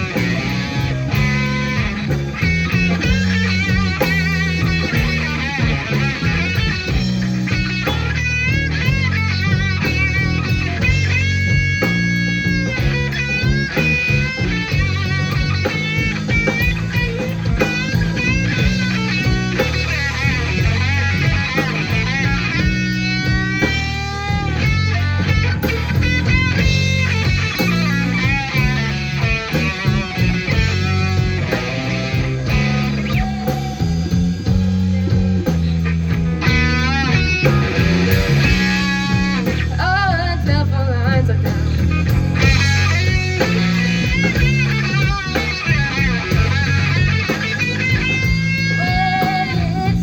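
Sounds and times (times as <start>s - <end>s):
bass guitar: 0.0s - 50.0s
drums: 0.0s - 50.0s
electric guitar bending notes: 0.0s - 50.0s.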